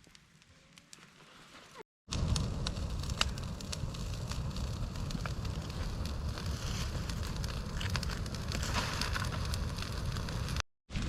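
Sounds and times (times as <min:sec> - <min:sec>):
fire crackling and popping: 0:00.0 - 0:11.0
fire low rumble: 0:00.2 - 0:11.0.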